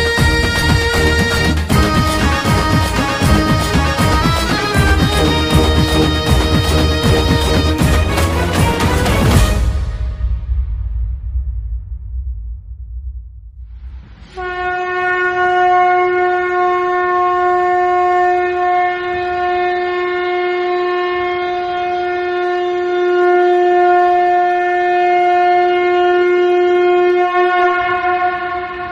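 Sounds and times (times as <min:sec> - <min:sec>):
long horn note: 0:00.0 - 0:11.4, 0:14.2 - 0:28.9.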